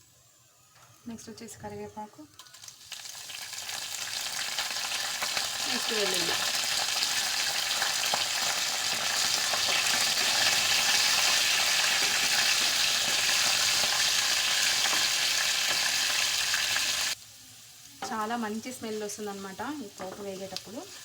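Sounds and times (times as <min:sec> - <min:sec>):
oil sizzling and crackling: 0:02.1 - 0:21.0.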